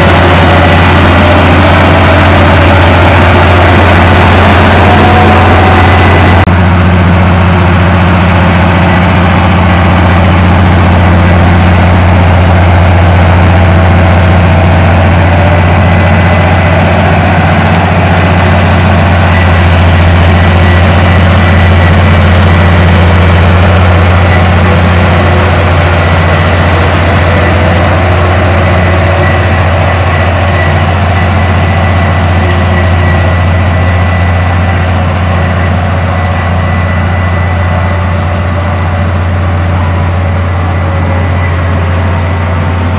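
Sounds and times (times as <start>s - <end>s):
bulldozer diesel engine droning: 0.0s - 42.9s.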